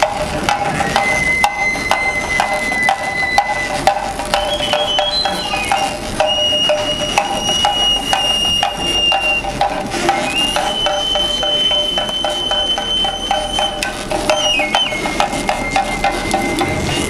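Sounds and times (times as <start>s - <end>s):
high-pitched cane flute: 0.0s - 17.0s
small hand drum beats: 0.0s - 17.0s.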